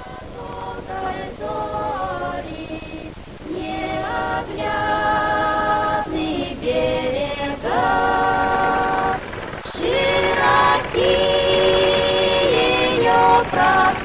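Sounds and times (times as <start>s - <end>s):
choir singing long-held notes: 0.0s - 14.0s.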